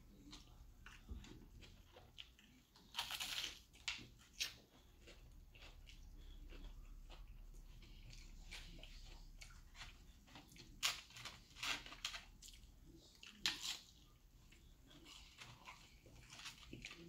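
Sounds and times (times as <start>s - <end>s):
chewing fried fish: 0.0s - 17.0s.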